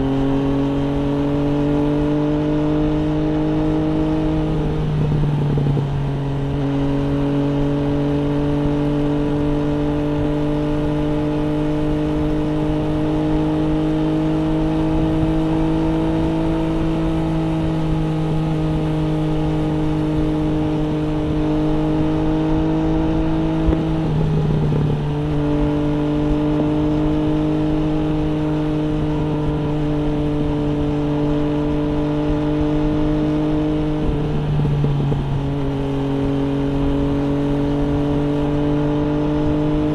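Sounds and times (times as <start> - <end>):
motorcycle engine at road speed: 0.0 - 39.9.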